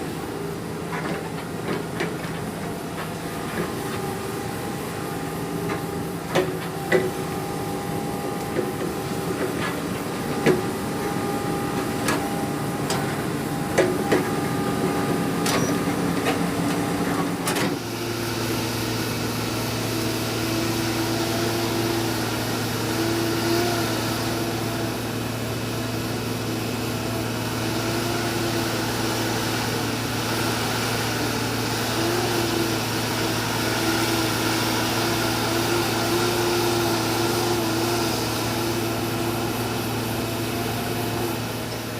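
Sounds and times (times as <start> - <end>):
excavator engine and hydraulics: 0.0 - 41.9.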